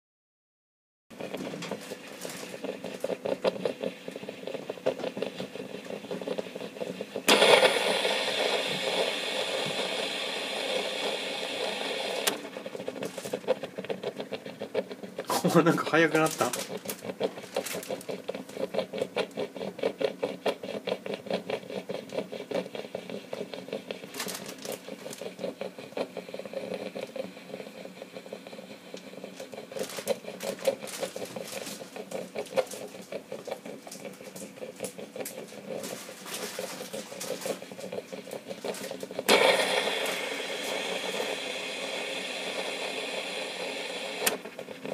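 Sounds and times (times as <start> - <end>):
rice cooker venting steam: 1.2 - 44.9.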